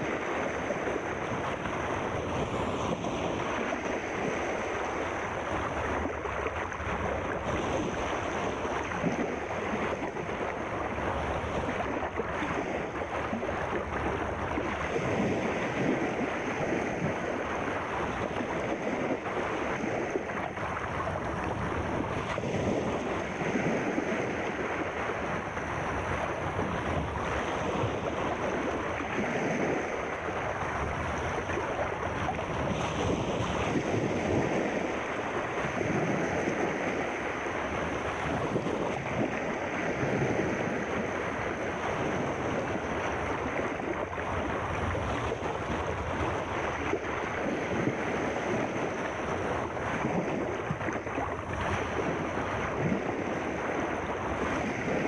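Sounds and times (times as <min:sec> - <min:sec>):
sea waves washing: 0:00.0 - 0:55.0.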